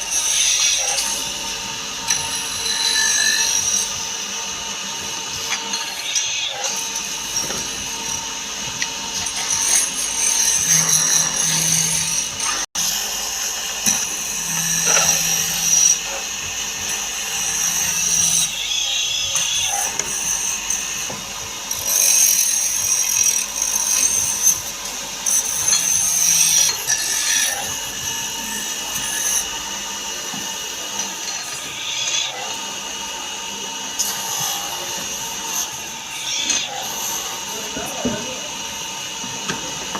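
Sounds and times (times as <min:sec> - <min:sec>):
power tool whining on wood: 0:00.0 - 0:39.9.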